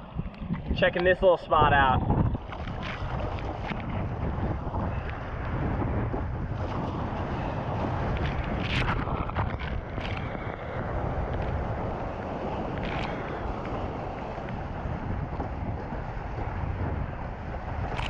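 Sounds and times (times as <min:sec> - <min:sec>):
water splashes: 0:00.0 - 0:18.0
wind rumbling on microphone: 0:00.0 - 0:18.0.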